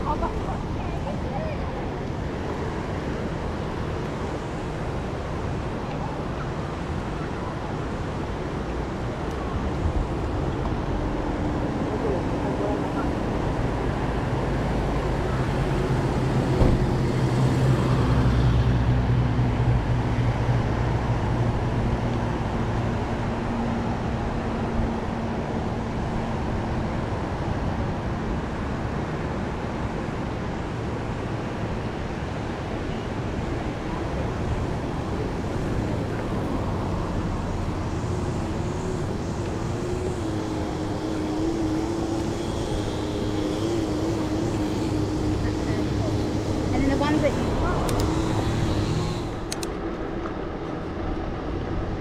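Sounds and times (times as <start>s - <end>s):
bicycle road noise: 0.0s - 52.0s
vehicle engine hum passing: 0.0s - 52.0s.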